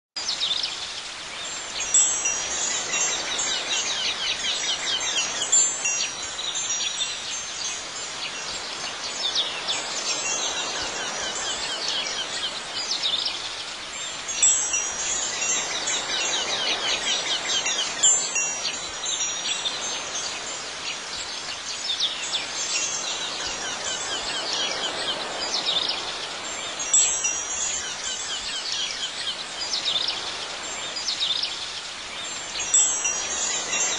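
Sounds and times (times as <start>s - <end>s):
wind chimes tinkling: 1.4s - 33.9s.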